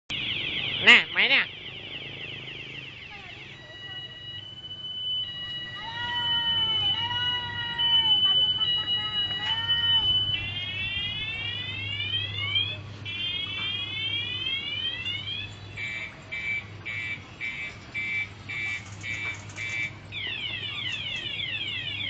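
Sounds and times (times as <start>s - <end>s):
electronic siren-like sweeps: 0.1s - 22.0s.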